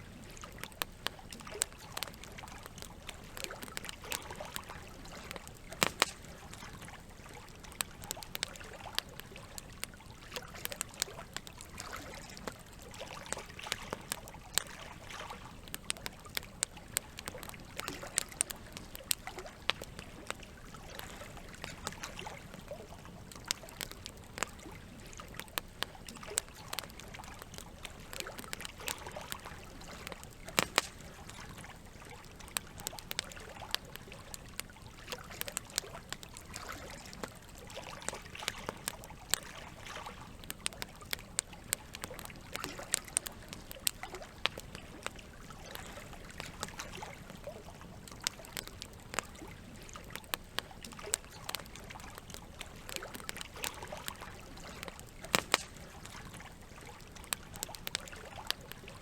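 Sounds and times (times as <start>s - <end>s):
campfire crackling and popping: 0.0s - 59.0s
running water trickling: 0.0s - 59.0s.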